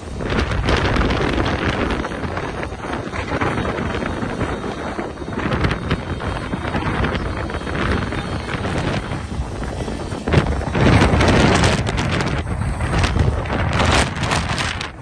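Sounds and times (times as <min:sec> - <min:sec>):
gusting wind on microphone: 0:00.0 - 0:15.0.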